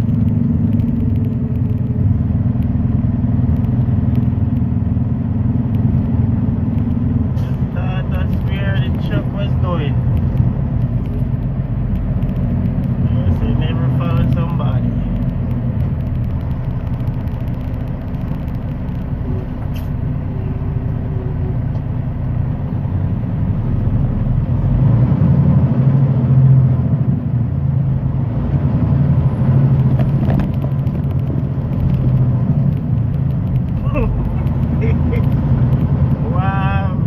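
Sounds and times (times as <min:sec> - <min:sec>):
diesel truck engine rumble: 0:00.0 - 0:37.0.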